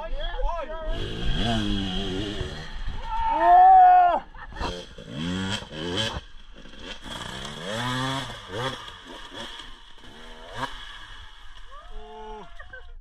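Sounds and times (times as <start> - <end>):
dirt bike engine revving: 0.8 - 3.6, 4.4 - 12.3.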